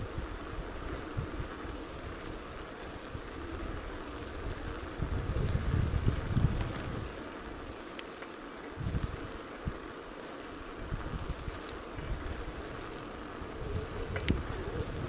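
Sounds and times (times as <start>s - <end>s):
wind rumbling on microphone: 0.0s - 7.8s, 8.7s - 10.0s, 10.6s - 15.0s.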